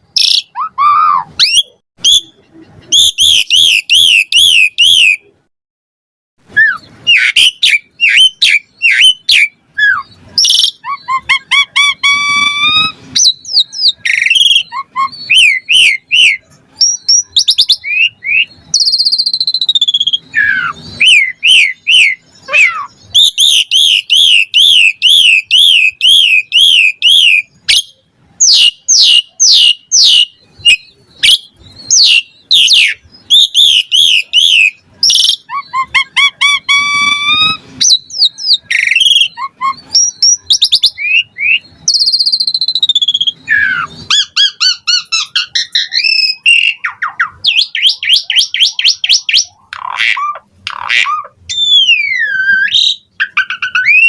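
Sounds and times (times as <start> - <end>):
starling singing: 0.0 - 5.4, 6.4 - 54.0.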